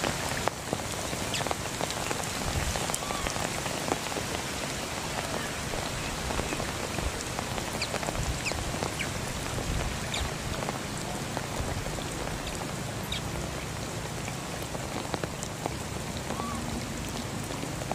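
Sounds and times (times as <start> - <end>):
rain on puddle and leaves: 0.0 - 17.9.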